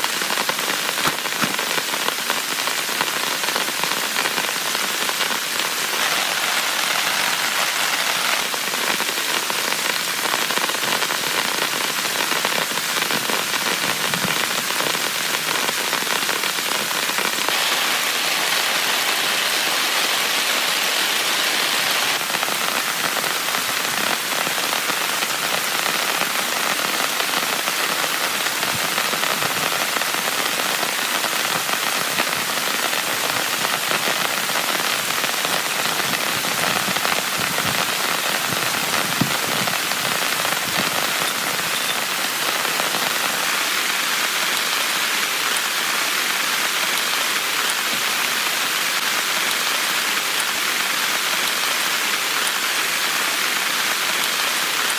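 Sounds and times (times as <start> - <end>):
heavy rain on a tent: 0.0 - 54.9.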